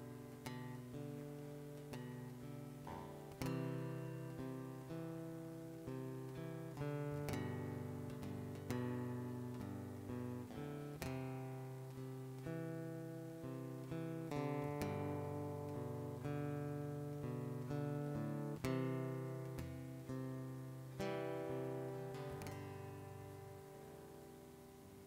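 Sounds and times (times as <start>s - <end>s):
acoustic guitar slow chords: 0.0s - 25.0s.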